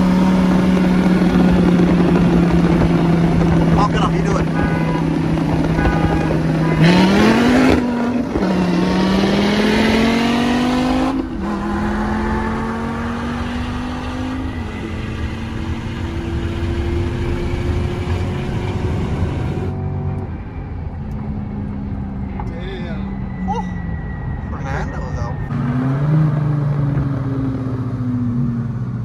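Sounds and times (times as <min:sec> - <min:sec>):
car engine at full throttle: 0:00.0 - 0:29.0.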